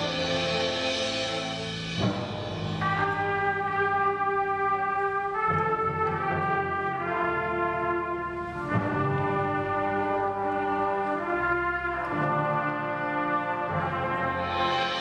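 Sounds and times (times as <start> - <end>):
brass sustained chords: 0.0 - 15.0
concert band playing slowly: 0.0 - 15.0.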